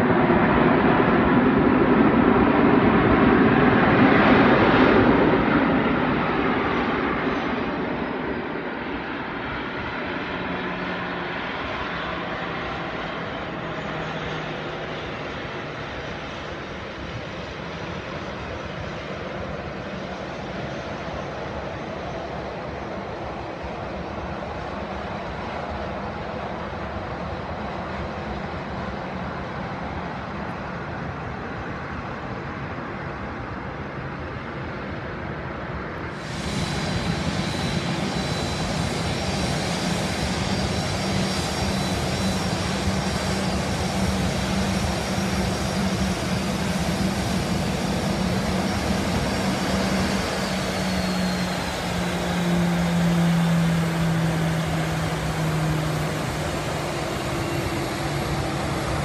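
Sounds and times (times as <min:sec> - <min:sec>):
jet engines whining: 0:00.0 - 0:32.7, 0:33.5 - 0:59.0.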